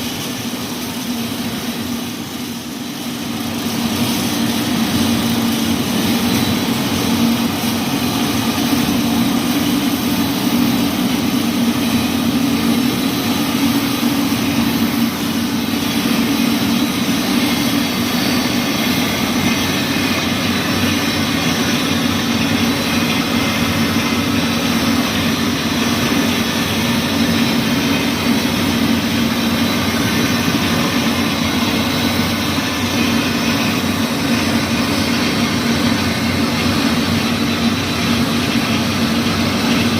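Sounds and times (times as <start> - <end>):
factory machinery hum: 0.0 - 39.9
wide hiss: 0.0 - 39.9.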